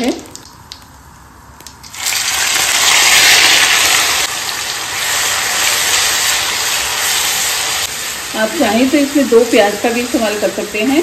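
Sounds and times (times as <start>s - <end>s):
paste sizzling in hot oil: 1.9s - 11.0s.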